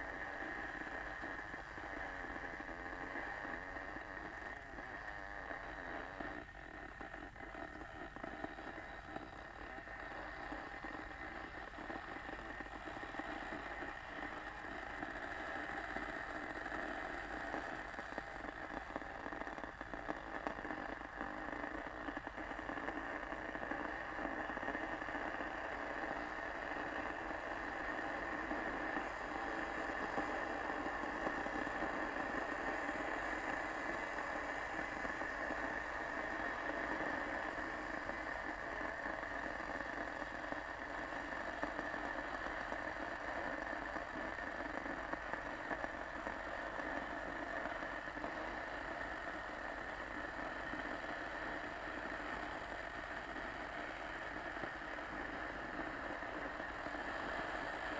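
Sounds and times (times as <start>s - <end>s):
kettle heating water: 0.0s - 57.9s.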